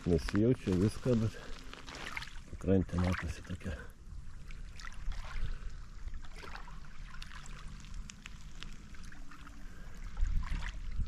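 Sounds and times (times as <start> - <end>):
little splashes and ticks: 0.0 - 11.0
small waves lapping: 0.0 - 11.0.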